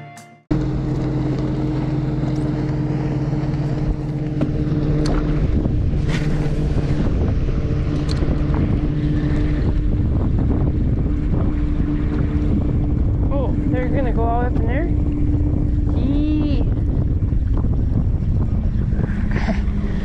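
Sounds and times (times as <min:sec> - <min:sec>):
boat motor humming: 0:00.0 - 0:20.0
water noise: 0:00.5 - 0:20.0
wind buffeting microphone: 0:00.5 - 0:20.0.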